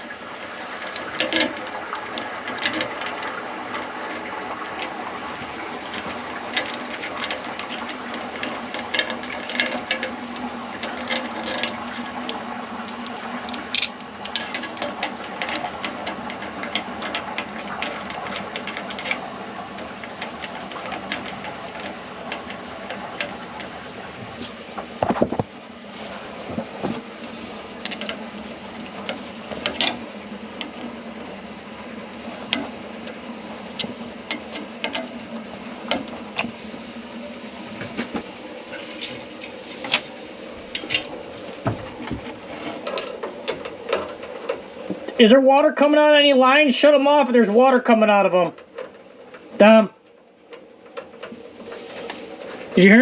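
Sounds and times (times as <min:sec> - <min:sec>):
pipes clicking and knocking: 0:00.0 - 0:31.4, 0:32.2 - 0:36.8, 0:37.8 - 0:46.4
water rushing through pipes: 0:00.0 - 0:49.9.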